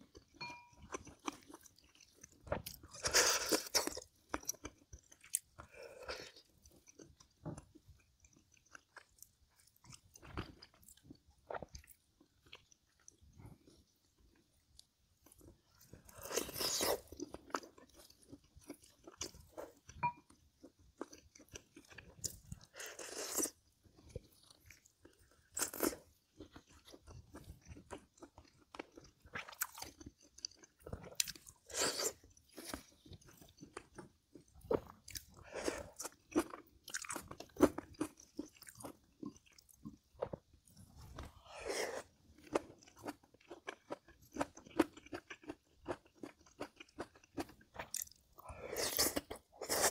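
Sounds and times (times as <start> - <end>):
chewing and crunching food: 0.0 - 49.9.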